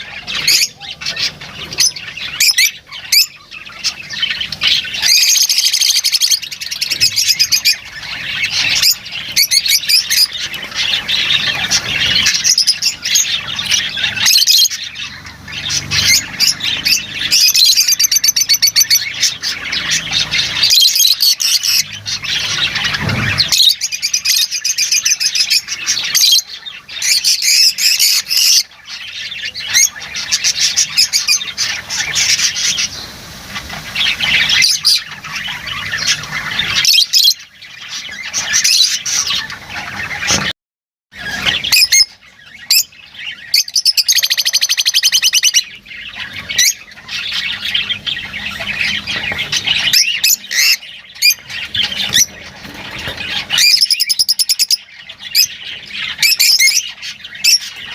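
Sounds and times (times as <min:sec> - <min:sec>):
lovebirds chattering and squawking: 0:00.0 - 0:57.9.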